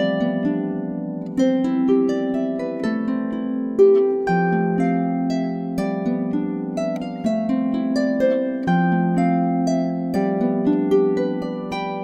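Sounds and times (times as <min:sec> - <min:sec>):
harp melody: 0:00.0 - 0:12.0.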